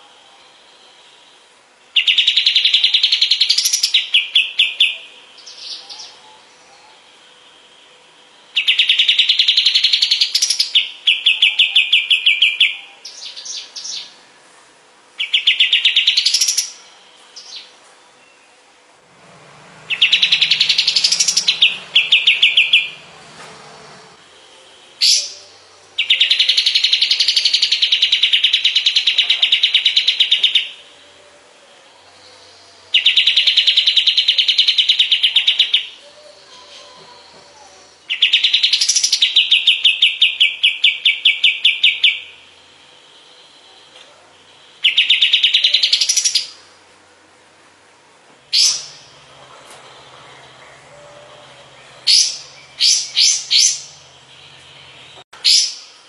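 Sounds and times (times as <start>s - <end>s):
bird singing buzzy trills: 0.0s - 56.0s.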